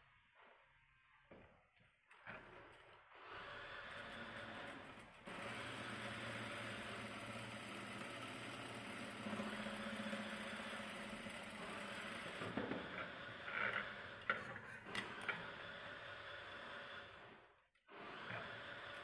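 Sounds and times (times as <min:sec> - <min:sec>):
sewing machine motor hum: 0:03.2 - 0:19.0.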